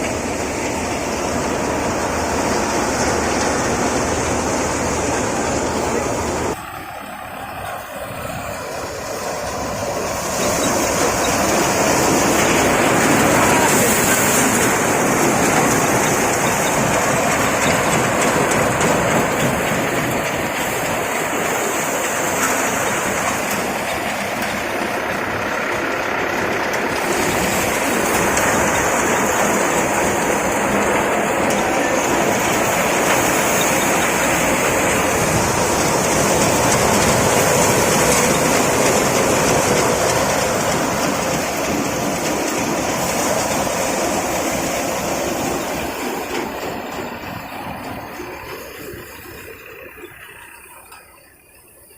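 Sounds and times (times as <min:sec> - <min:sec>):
engine running steadily: 0:00.0 - 0:51.9.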